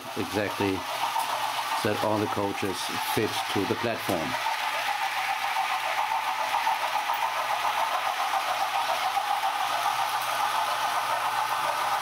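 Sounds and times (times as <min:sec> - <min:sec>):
model trains rattling on track: 0:00.0 - 0:12.0.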